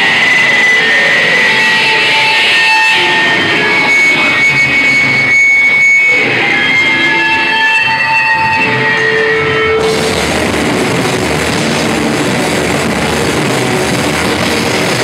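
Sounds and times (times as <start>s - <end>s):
distorted electric guitar: 0.0s - 15.0s
ringing guitar feedback: 0.0s - 15.0s.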